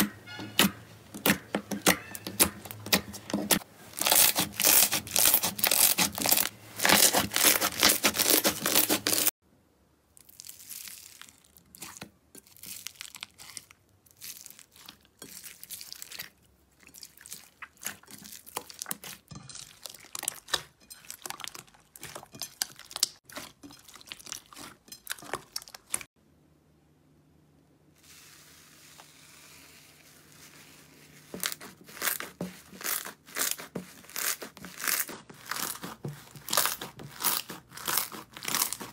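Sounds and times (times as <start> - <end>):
slime squelching and crackling: 0.0 - 9.4, 10.2 - 26.1, 28.1 - 38.9.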